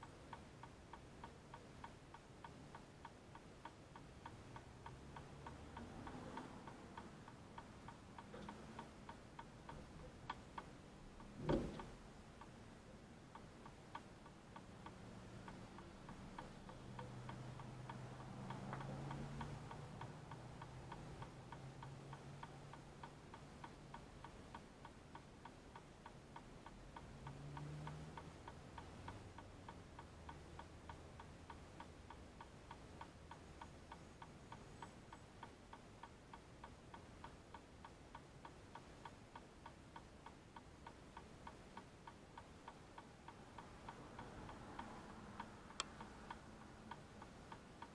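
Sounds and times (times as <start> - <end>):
mechanical ticking: 0.0 - 47.9
passing traffic hum: 3.4 - 38.5, 41.2 - 47.9.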